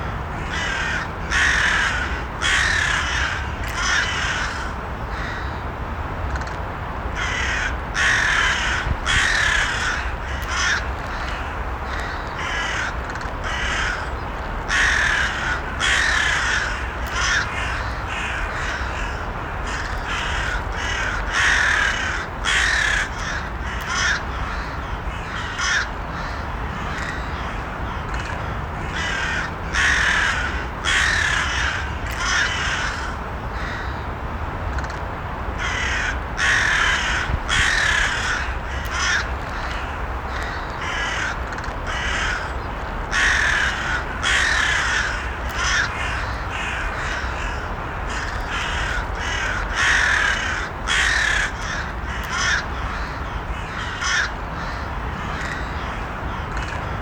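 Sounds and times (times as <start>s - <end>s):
crows cawing: 0.0s - 5.6s, 7.2s - 34.0s, 35.6s - 57.0s.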